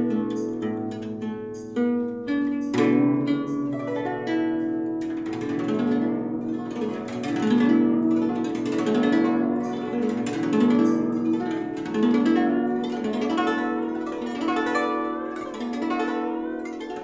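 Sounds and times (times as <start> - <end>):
plucked zither music: 0.0 - 17.0.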